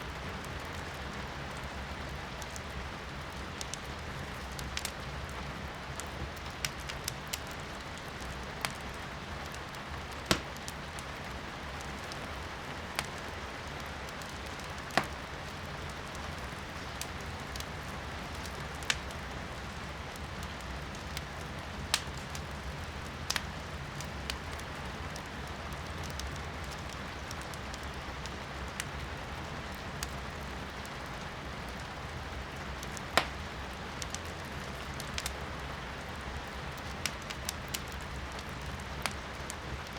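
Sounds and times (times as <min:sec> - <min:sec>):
firewood crackling in fireplace: 0:00.0 - 0:39.9
rain hissing outside: 0:00.0 - 0:39.9.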